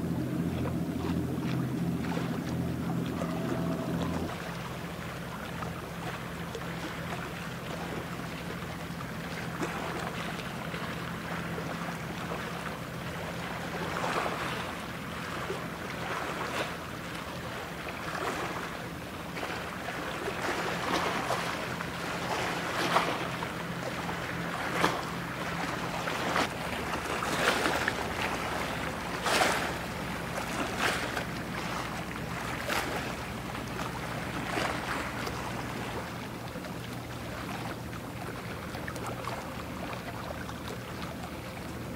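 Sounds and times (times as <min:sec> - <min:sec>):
bow wave rushing and splashing: 0:00.0 - 0:41.9
low engine hum: 0:00.0 - 0:41.9
water slapping: 0:00.0 - 0:41.9.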